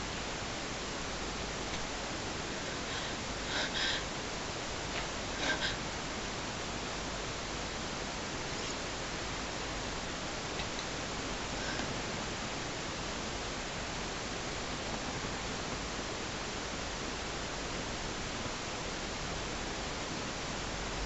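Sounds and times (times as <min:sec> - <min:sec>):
steady camera hiss: 0:00.0 - 0:21.0.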